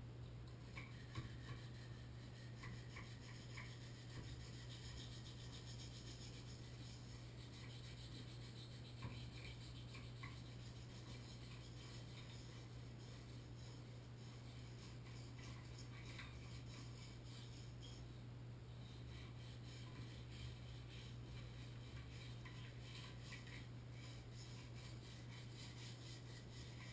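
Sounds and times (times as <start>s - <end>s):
hand tool scraping metal: 0.8s - 18.0s, 18.9s - 26.9s.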